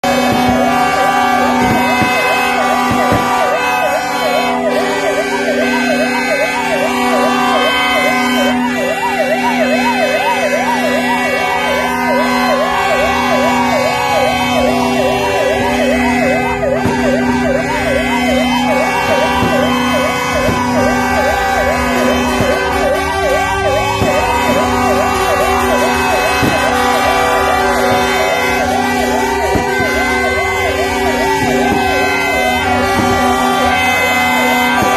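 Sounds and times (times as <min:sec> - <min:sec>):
siren yelping: 0:00.0 - 0:34.9
sirens wailing: 0:00.0 - 0:34.9
vehicle horns honking: 0:00.0 - 0:34.9.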